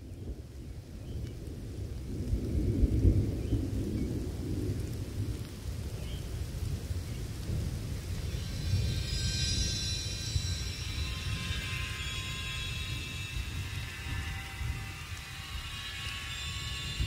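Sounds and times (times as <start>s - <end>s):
low grainy rumble: 1.2s - 17.0s.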